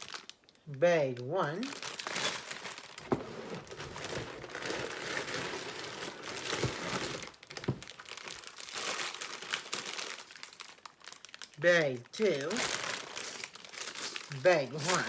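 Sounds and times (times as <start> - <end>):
plastic bags crinkling: 0.0 - 0.7, 1.6 - 15.0.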